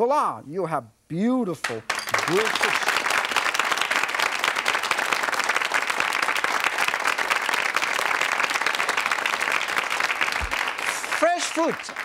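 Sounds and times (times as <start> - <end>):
audience applauding: 1.7 - 12.0.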